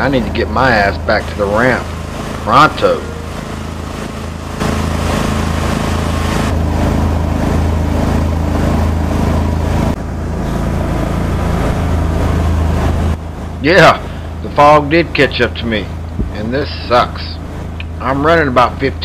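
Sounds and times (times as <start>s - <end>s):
boat motor running at speed: 0.0s - 19.0s.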